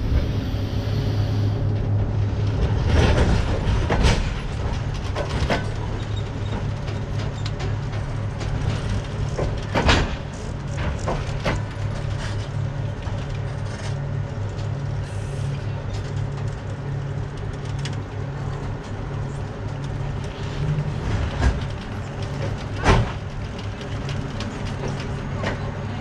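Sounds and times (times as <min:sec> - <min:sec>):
low electrical hum of train: 0:00.0 - 0:26.0.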